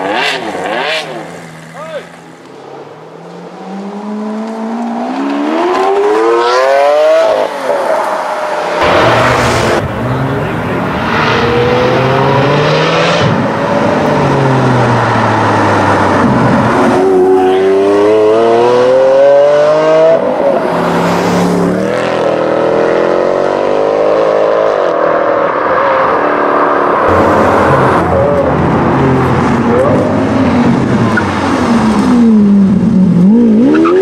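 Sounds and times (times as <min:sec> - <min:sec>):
car engine accelerating hard: 0:03.4 - 0:34.0.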